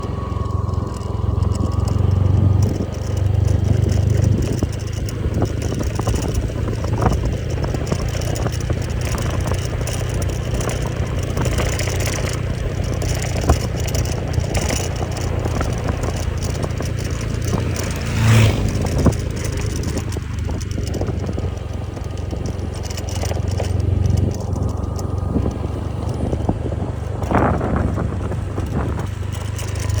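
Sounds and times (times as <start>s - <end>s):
vehicle rumble: 0.0s - 30.0s
clatter and knocks: 0.5s - 30.0s.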